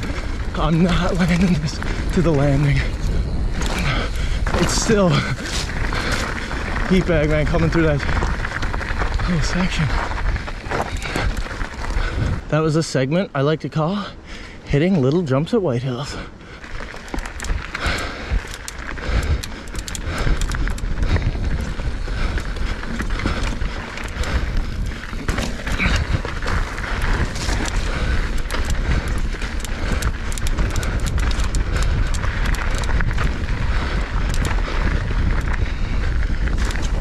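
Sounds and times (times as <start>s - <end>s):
wind buffeting microphone: 0.0s - 13.0s, 14.2s - 37.0s
bike rattling: 0.0s - 13.1s, 14.1s - 37.0s
tyres crunching over gravel: 0.0s - 13.2s, 14.8s - 37.0s.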